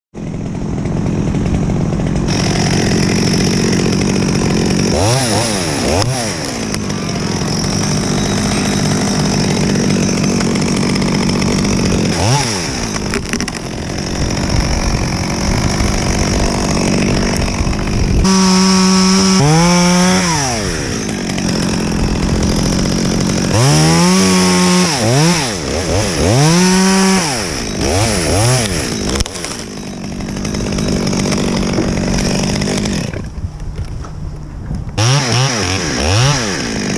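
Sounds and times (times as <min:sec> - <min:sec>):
chainsaw revving: 0:00.2 - 0:33.4, 0:35.0 - 0:36.9.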